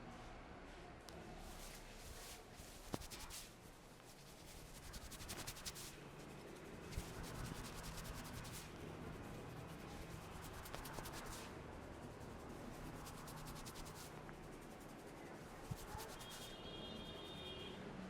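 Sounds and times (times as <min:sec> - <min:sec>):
fingers scratching through hair: 0:01.4 - 0:17.2.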